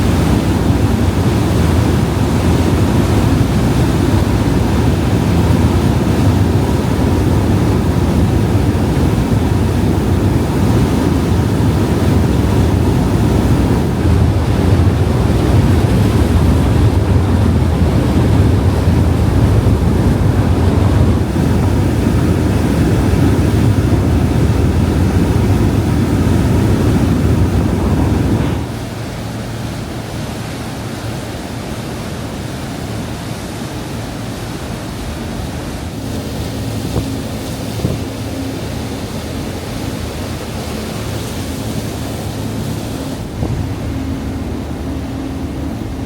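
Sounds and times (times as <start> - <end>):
wind buffeting microphone: 0.0 - 32.3, 33.9 - 46.0
ferry engines rumbling: 0.0 - 46.0
rushing water: 0.0 - 46.0.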